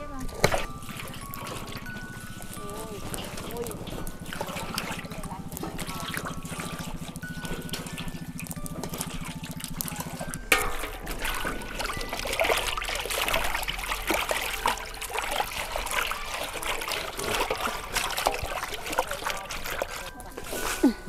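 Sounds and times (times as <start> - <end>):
fish bubbling and sizzling in wok: 0.0 - 21.0.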